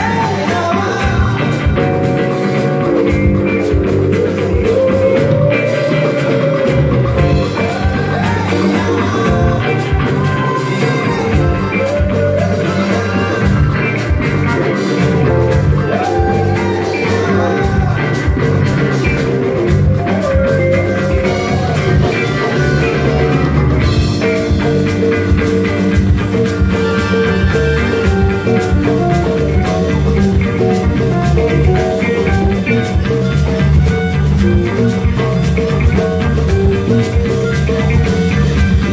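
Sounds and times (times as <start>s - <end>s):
bongos: 0.0s - 38.9s
live rock band: 0.0s - 38.9s.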